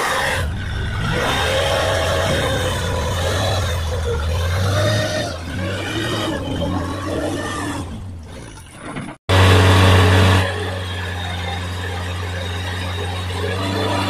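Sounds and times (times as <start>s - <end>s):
truck engine labouring through mud: 0.0s - 14.0s.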